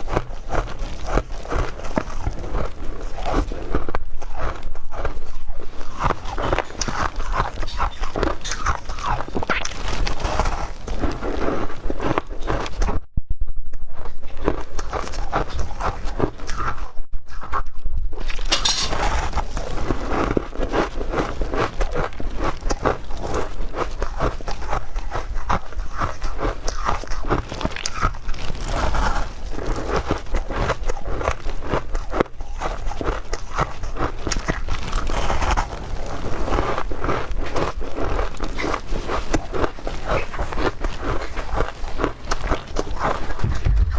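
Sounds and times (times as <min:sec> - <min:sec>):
ice being chewed: 0:00.0 - 0:13.0, 0:14.2 - 0:43.9.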